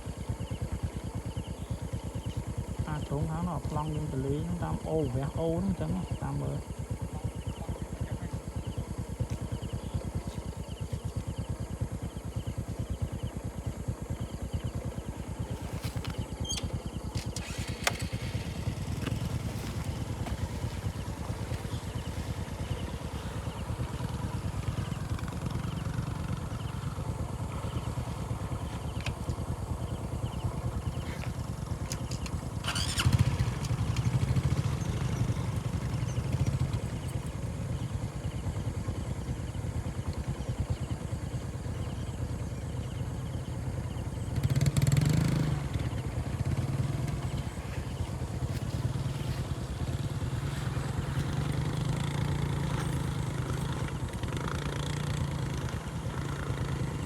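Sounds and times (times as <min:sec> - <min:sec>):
small motorcycle engine running: 0:00.0 - 0:57.0.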